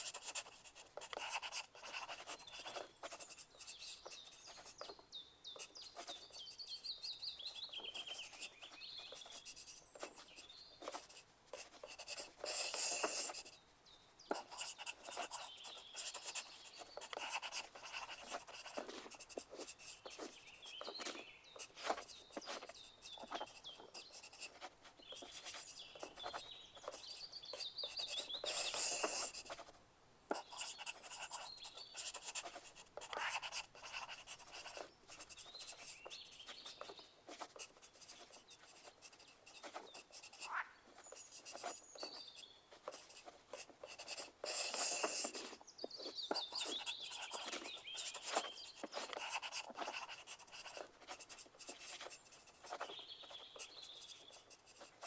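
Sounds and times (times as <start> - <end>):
pencil writing on paper: 0.0 - 5.0, 5.6 - 13.6, 14.3 - 29.7, 30.3 - 55.0.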